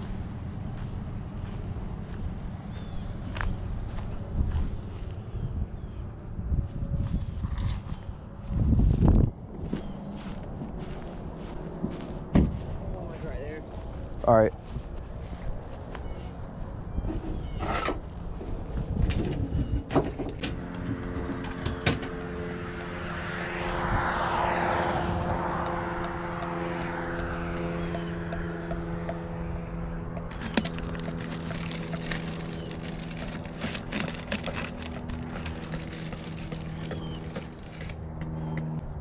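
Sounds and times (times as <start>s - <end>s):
vehicle passing: 0.0s - 19.6s, 20.5s - 39.0s
low engine hum: 0.0s - 39.0s.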